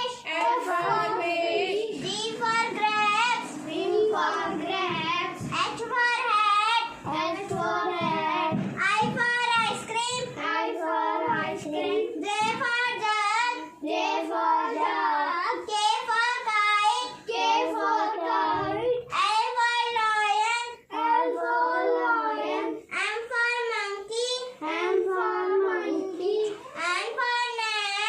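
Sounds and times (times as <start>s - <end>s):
girl singing: 0.0s - 28.0s.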